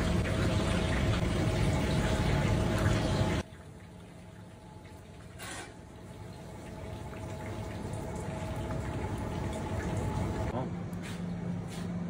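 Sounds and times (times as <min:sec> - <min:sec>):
running tap water: 0:00.0 - 0:10.5.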